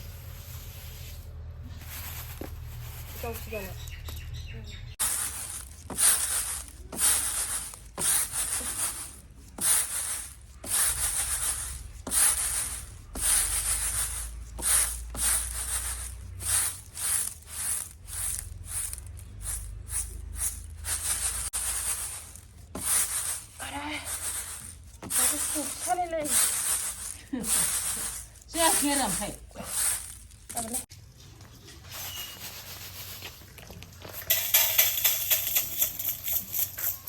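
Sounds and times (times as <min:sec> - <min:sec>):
scraping strokes: 0:00.0 - 0:04.0, 0:04.9 - 0:30.9, 0:31.7 - 0:33.6.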